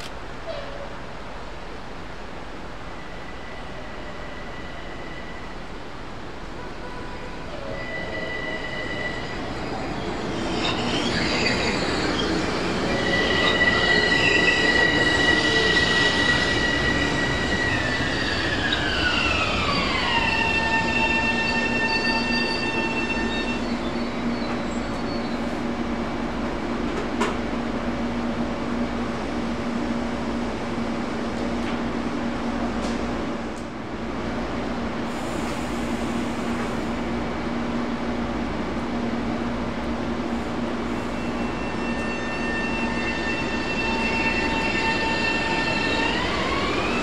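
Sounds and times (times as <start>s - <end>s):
train moving along rails: 0.0s - 47.0s.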